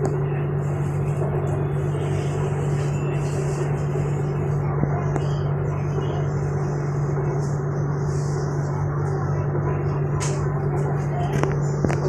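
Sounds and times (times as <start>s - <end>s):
train low hum: 0.0s - 12.0s.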